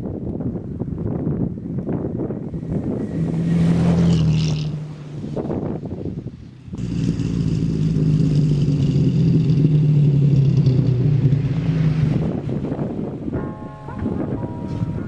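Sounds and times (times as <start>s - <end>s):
pickup truck engine droning: 1.8s - 15.0s.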